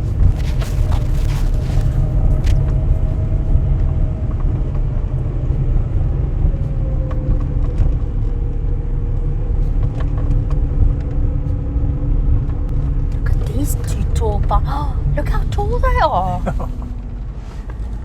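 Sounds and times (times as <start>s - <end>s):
faint engine hum: 0.0s - 18.0s
road rumble: 0.0s - 18.0s.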